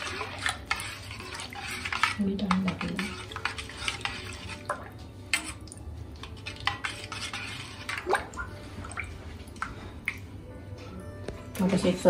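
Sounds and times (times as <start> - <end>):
metal spoon stirring in steel pot: 0.0 - 10.1.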